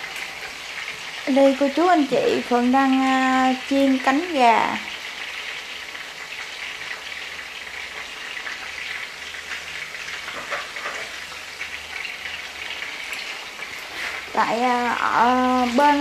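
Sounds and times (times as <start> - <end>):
chicken wings sizzling in oil: 0.0 - 16.0.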